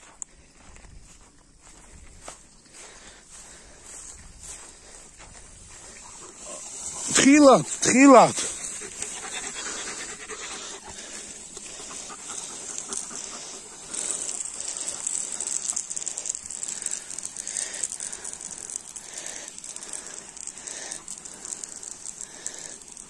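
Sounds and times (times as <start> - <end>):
sprinkler spray hissing on grass: 0.0 - 23.0.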